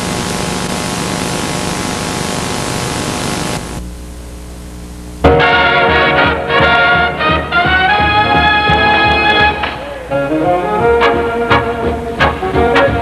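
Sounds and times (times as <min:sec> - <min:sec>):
tape hiss: 0:00.0 - 0:13.0.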